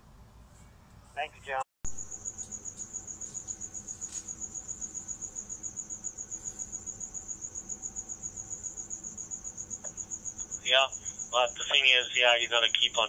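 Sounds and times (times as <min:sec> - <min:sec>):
cricket chirping trill: 0:01.9 - 0:13.0.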